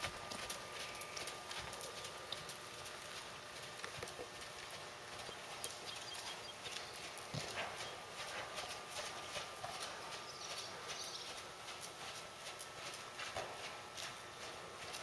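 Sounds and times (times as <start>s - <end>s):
horse hoofbeats on dirt: 0.0s - 15.0s.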